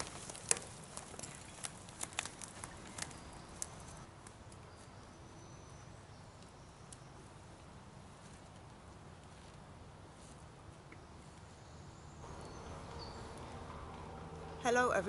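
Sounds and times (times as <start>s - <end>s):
crackles of leaves or twigs: 0.0s - 15.0s.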